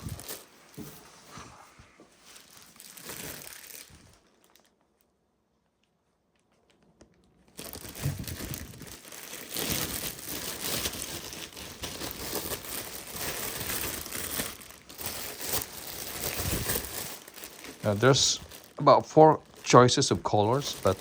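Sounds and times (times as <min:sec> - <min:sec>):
plastic wrapping crinkling: 0:00.0 - 0:01.0, 0:02.2 - 0:05.2, 0:05.8 - 0:21.0.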